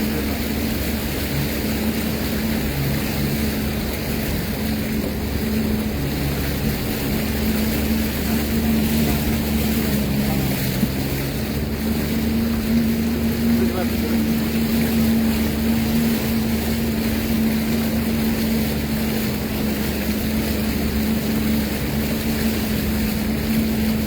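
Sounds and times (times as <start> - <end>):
rush of wind and water: 0.0 - 24.0
watercraft engine hum: 0.0 - 24.0.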